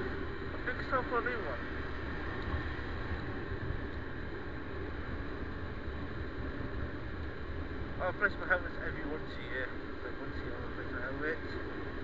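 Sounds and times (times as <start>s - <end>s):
road noise: 0.0s - 12.0s
wind rush on microphone: 0.0s - 12.0s.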